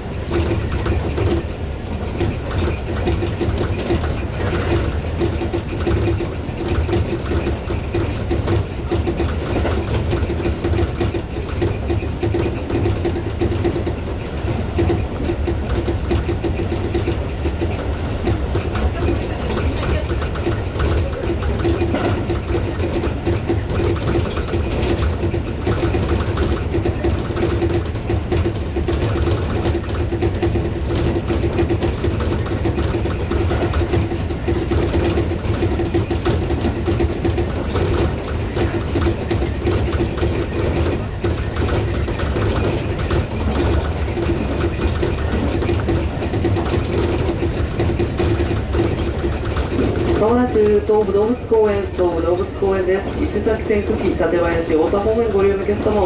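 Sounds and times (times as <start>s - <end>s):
train motor hum: 0.0s - 56.0s
train wheels rumbling on rails: 0.0s - 56.0s.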